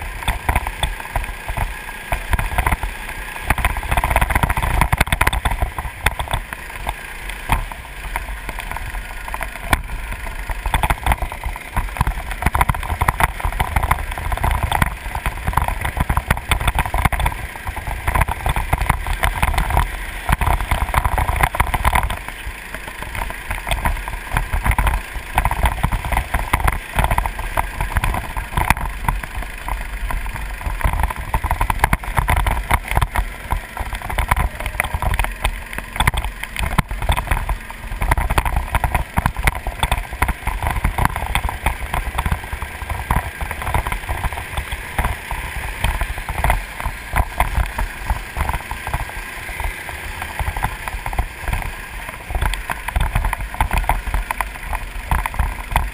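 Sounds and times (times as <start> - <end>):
go-kart engine running hard: 0.0 - 55.9.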